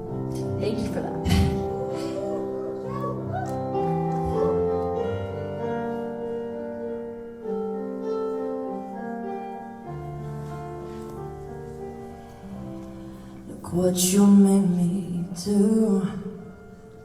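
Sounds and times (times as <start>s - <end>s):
solo piano slow chords: 0.0s - 17.0s.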